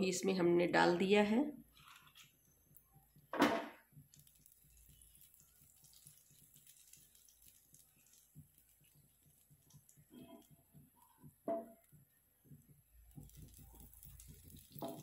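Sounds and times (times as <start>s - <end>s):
butter sizzling and popping: 1.7s - 15.0s.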